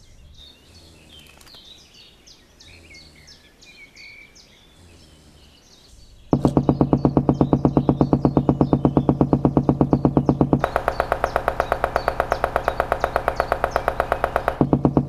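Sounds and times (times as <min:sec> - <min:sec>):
birds chirping: 0:00.0 - 0:15.0
faint low hum: 0:00.0 - 0:15.0.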